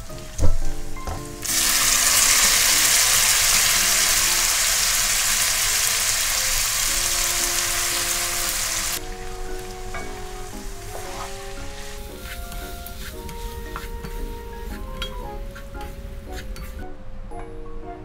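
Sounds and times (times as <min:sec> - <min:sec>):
loud sizzle in a wok: 0:00.0 - 0:16.8.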